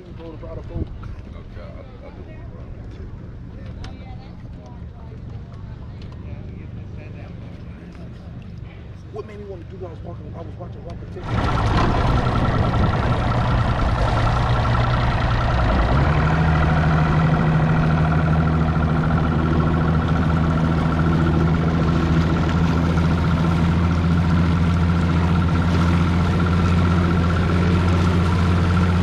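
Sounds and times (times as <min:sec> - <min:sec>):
outboard motor running: 0:04.4 - 0:29.0.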